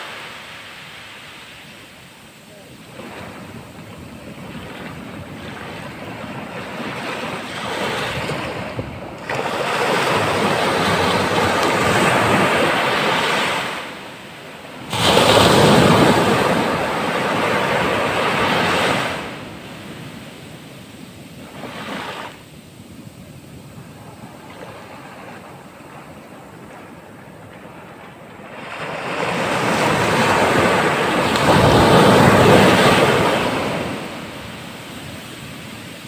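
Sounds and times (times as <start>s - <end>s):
ocean waves breaking: 0.0s - 36.0s.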